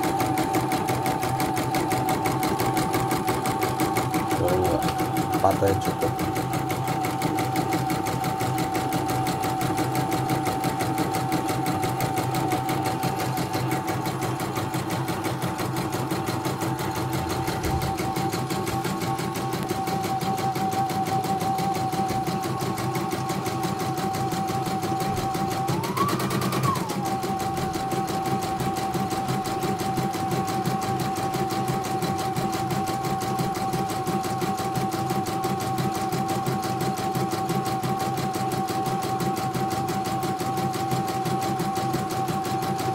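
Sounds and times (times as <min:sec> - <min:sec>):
embroidery machine stitching: 0:00.0 - 0:42.9.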